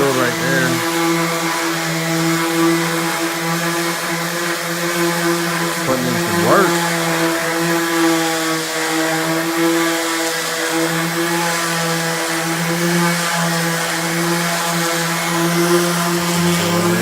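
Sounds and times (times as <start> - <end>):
power tool motor running: 0.0 - 17.0.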